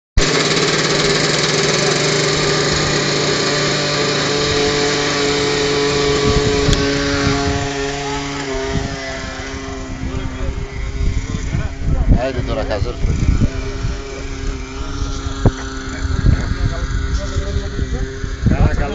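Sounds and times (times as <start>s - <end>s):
model helicopter rotor whine: 0.2s - 18.9s.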